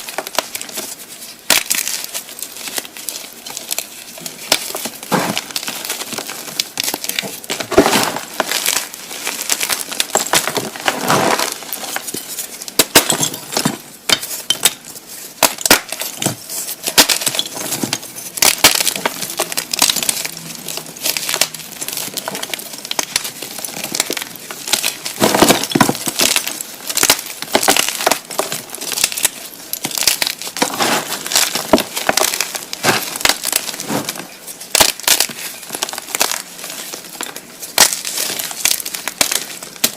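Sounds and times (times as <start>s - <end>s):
chalk pieces snapping: 0.0s - 13.1s, 15.4s - 39.9s.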